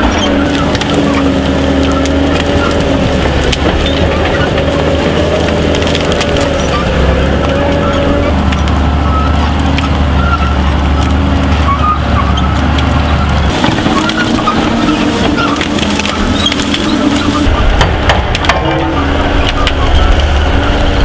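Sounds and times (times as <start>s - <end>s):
cutting head grinding: 0.0s - 20.8s
diesel engine droning: 0.0s - 21.0s.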